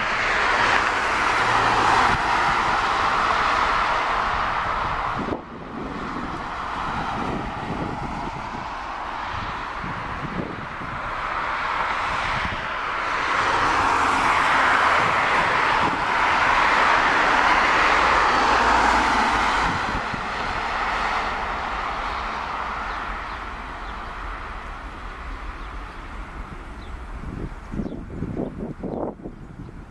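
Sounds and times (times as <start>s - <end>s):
jet engines at takeoff: 0.0s - 29.9s.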